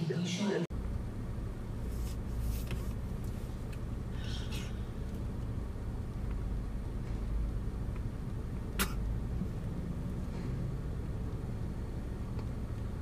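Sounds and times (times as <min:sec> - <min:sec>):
car engine running: 0:00.7 - 0:13.0.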